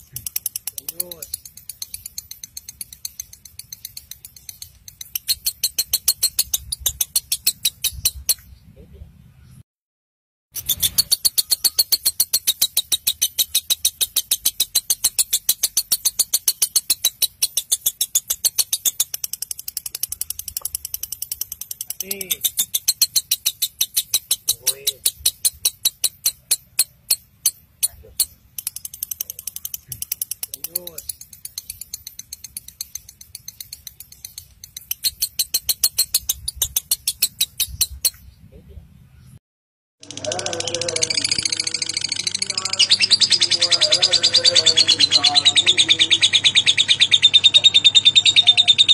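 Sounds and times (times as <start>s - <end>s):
lovebird chattering: 0.0s - 8.6s, 10.5s - 38.3s, 40.0s - 48.9s
high-pitched bird chirps: 0.0s - 8.8s, 10.5s - 38.6s, 40.0s - 48.9s.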